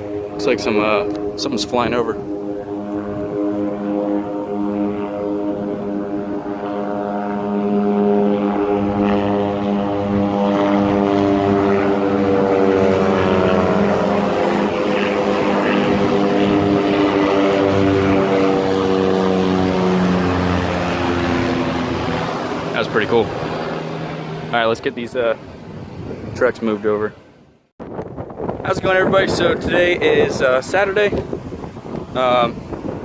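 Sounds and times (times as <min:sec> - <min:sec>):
aircraft engine drone: 0:00.0 - 0:33.0.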